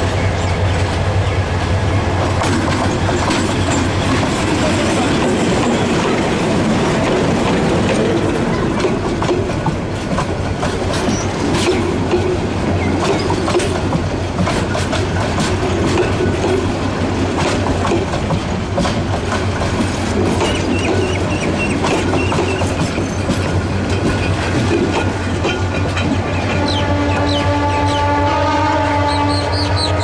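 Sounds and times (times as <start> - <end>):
train coaches rumbling past: 0.0 - 30.0
wheels clicking over rail joints: 2.2 - 28.1.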